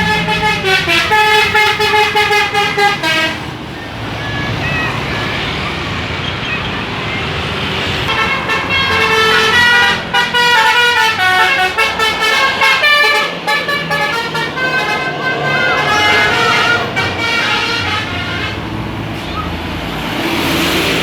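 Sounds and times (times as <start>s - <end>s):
bus multi-tone horn tune: 0.0s - 6.3s, 8.0s - 19.6s
bus engines running: 0.0s - 21.0s
traffic: 0.0s - 21.0s.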